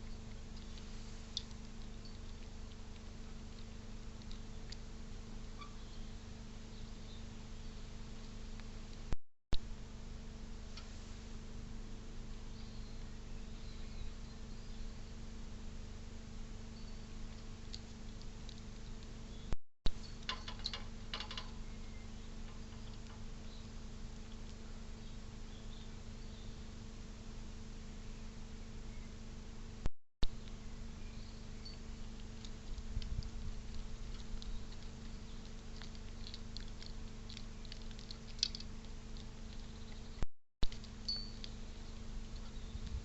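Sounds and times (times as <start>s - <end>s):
squirrel chewing seeds: 0.0s - 9.8s, 10.4s - 27.9s, 30.2s - 43.0s
faint hum: 0.0s - 43.0s.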